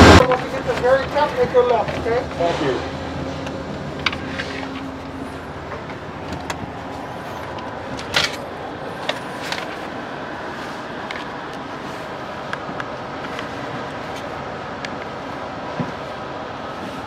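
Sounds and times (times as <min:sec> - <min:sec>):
train car hum: 0:00.0 - 0:17.0.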